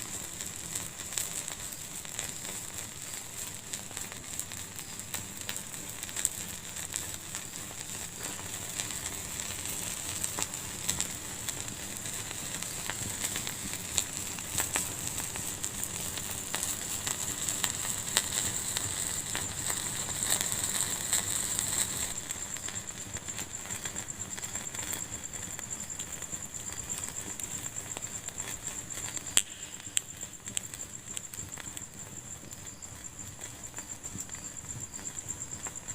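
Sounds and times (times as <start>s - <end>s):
fire crackling and popping: 0.0s - 35.9s
steady fire hiss: 0.0s - 35.9s.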